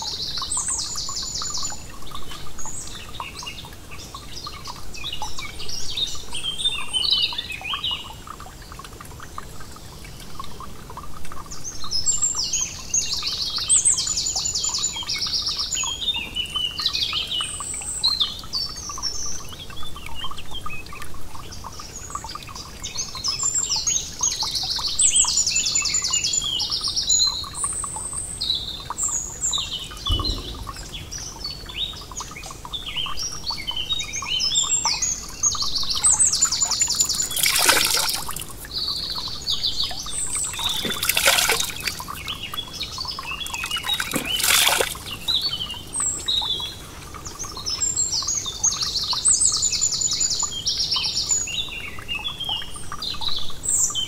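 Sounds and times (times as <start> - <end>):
songbirds singing and trilling: 0.0 - 54.0.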